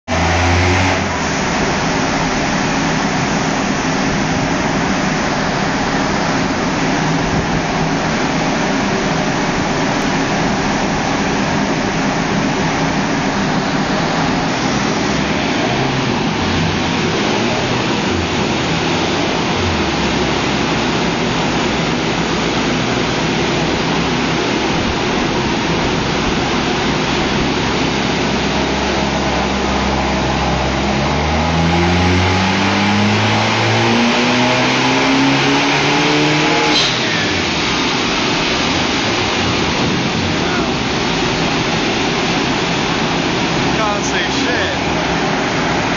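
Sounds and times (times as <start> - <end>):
diesel engine running: 0.0 - 45.9
large cooling fan blowing: 0.1 - 45.9.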